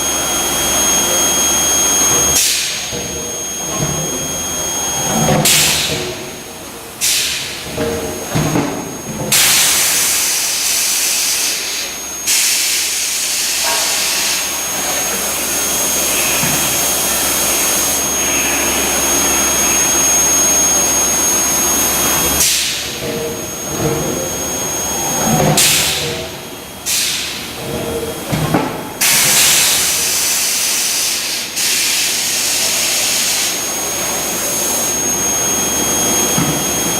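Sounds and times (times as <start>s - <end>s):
high-pitched whine: 0.0s - 27.0s, 29.0s - 36.9s
furnace loud hissing: 0.0s - 27.6s, 28.9s - 36.9s.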